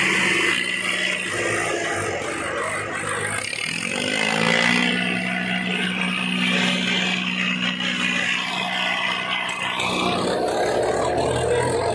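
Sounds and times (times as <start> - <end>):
diesel tractor engines straining: 0.0 - 11.9
tyres spinning in dirt: 0.0 - 11.9.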